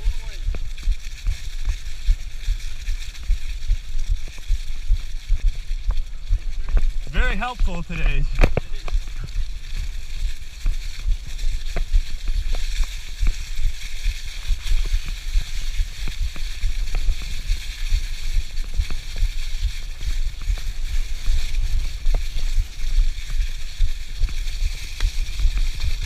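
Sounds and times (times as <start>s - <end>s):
tyres hissing through dry leaves: 0.0s - 26.0s.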